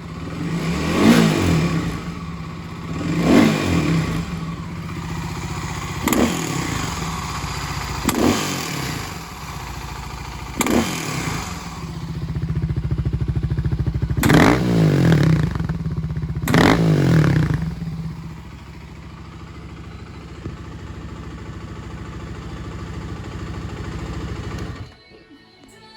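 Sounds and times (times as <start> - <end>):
motorcycle engine revving from idle: 0.0 - 24.9.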